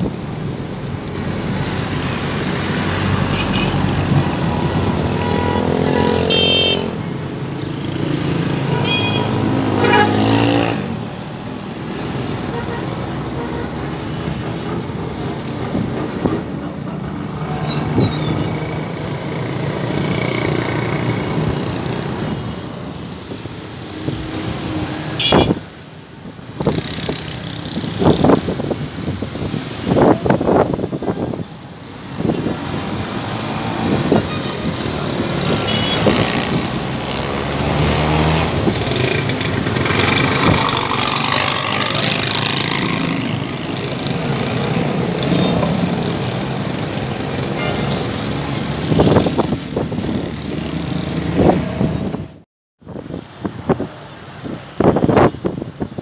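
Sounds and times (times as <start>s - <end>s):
motorcycles passing: 0.0s - 52.4s
cars passing: 0.0s - 56.0s.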